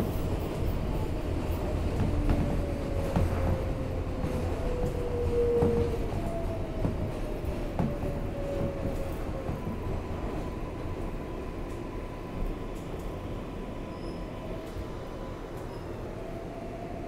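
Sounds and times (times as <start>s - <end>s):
rumble of train wheels on rail: 0.0s - 17.0s.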